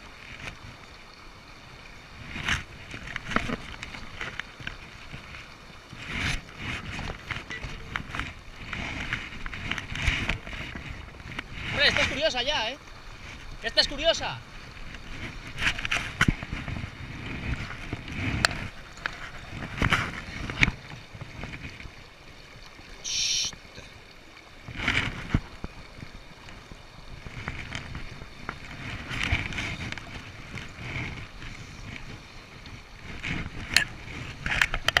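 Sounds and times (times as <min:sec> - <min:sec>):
river water: 0:00.0 - 0:35.0
wind rumbling on microphone: 0:00.0 - 0:35.0.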